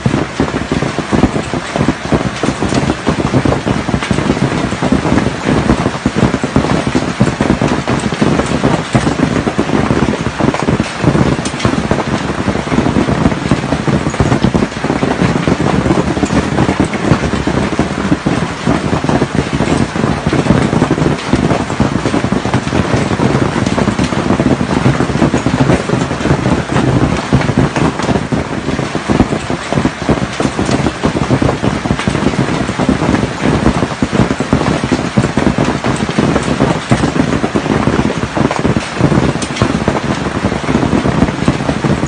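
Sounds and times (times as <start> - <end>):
heavy rain pouring: 0.0 - 42.0
raindrops striking hard surfaces: 0.0 - 42.0.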